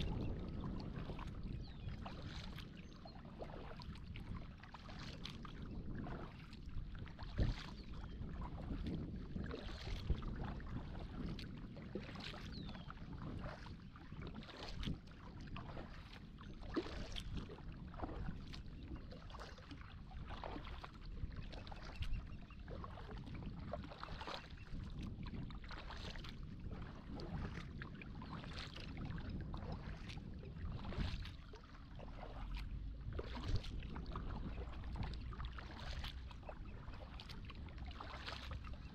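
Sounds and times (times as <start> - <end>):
paddle splashing in water: 0.0 - 38.9
steady wash of water: 0.0 - 38.9.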